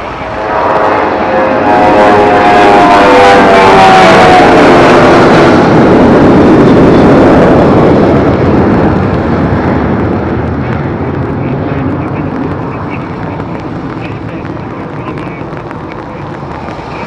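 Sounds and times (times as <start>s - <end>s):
jet plane passing overhead: 0.0s - 17.0s.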